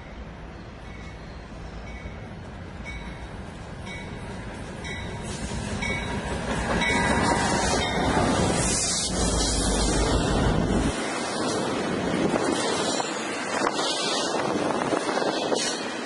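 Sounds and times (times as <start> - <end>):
diesel locomotive engine rumble: 0.0 - 16.0
train wheel noise: 0.0 - 16.0.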